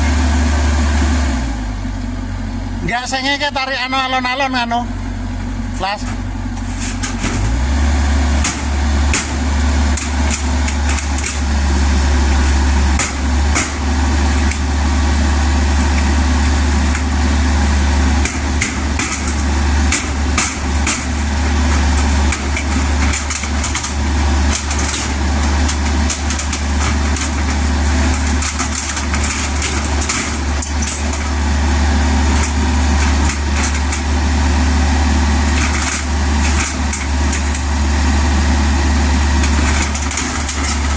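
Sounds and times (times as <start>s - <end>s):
excavator diesel engine running: 0.0s - 40.9s
metal clanks and knocks: 5.9s - 37.8s, 39.2s - 40.9s.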